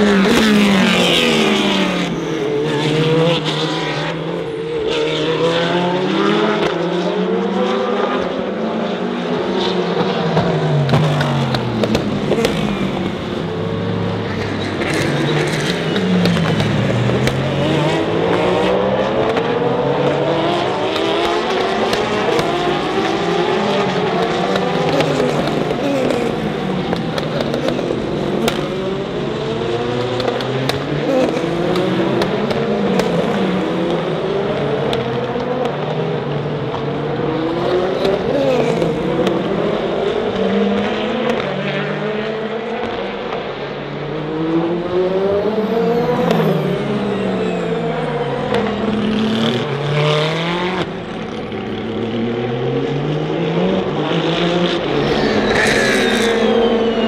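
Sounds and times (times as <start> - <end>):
race cars passing at speed: 0.0 - 57.0.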